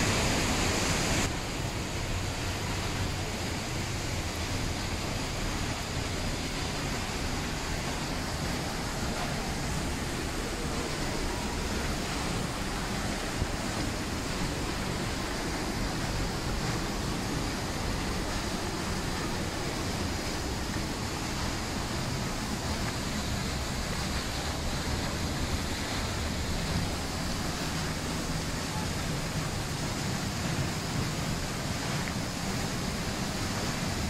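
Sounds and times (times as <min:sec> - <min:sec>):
waterfall rushing onto rocks: 0:00.0 - 0:34.0.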